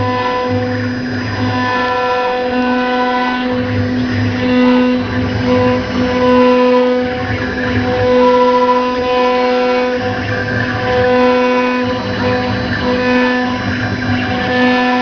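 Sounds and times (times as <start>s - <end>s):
instrumental music with bass: 0.0s - 15.0s.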